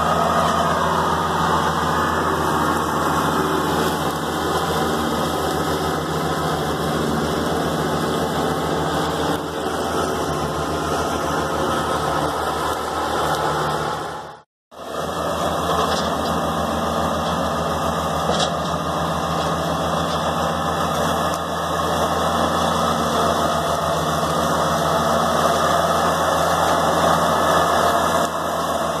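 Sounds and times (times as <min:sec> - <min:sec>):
mower deck cutting grass: 0:00.0 - 0:29.0
tractor diesel engine running: 0:00.0 - 0:29.0.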